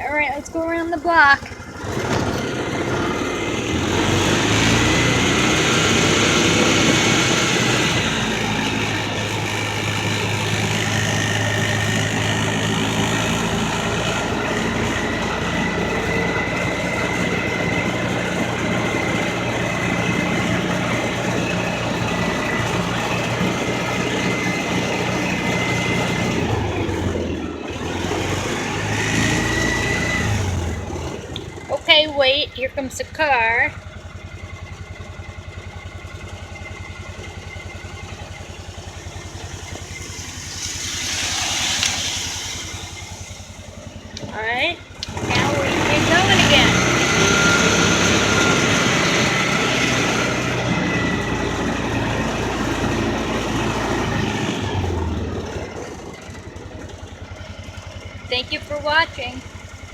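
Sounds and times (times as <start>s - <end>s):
off-road vehicle engine driving: 0.0s - 59.9s.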